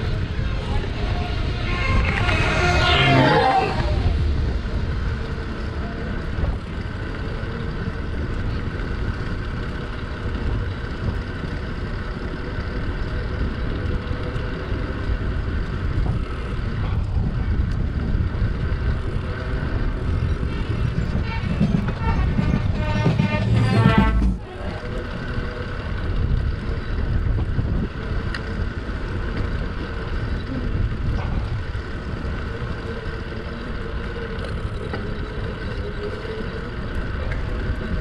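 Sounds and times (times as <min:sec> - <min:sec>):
road and wind noise: 0:00.0 - 0:38.0
vehicle engine rumble: 0:00.0 - 0:38.0.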